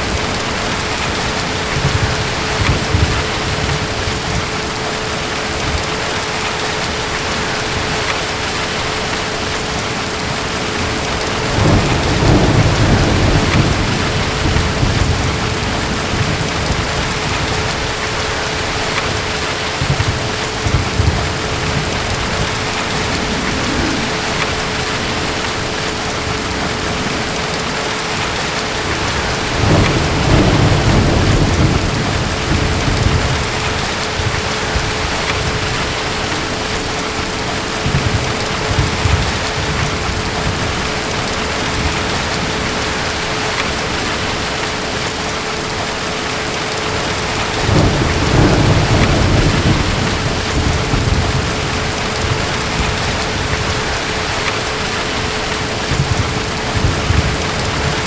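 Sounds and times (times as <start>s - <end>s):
distant thunder rolling: 0.0s - 45.2s, 46.9s - 58.0s
steady rain: 0.0s - 58.0s.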